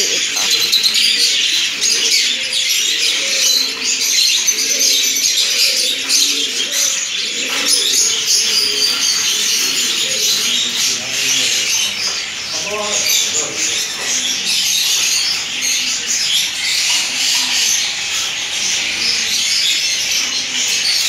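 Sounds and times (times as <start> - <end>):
finches and parrots chirping: 0.0 - 21.0.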